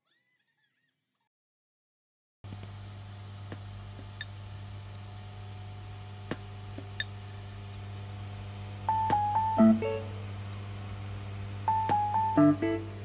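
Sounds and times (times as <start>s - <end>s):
low electrical hum: 2.5s - 13.0s.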